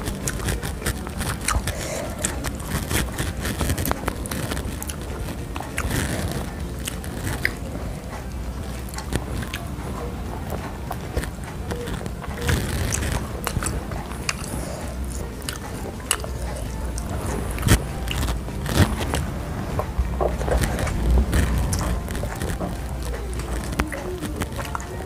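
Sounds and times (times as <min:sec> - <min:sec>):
person chewing meatballs: 0:00.0 - 0:25.0
wet mouth clicks: 0:00.0 - 0:25.0.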